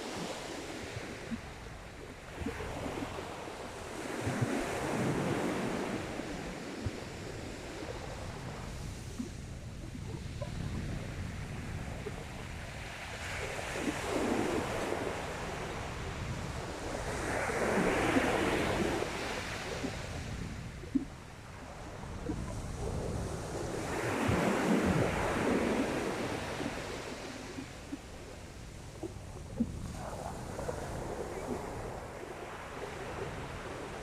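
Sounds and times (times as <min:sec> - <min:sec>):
sea waves breaking on beach: 0:00.0 - 0:34.0
wind rumbling on microphone: 0:00.0 - 0:34.0.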